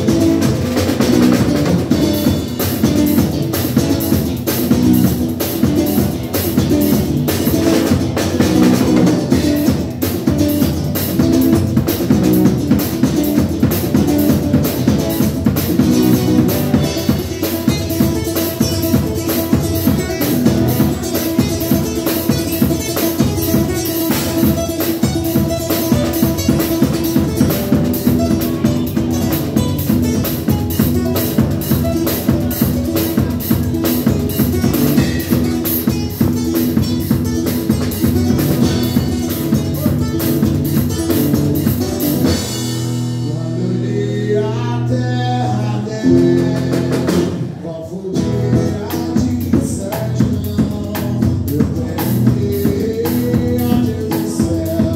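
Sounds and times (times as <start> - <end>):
drum kit beat: 0.0 - 43.9, 45.9 - 54.9.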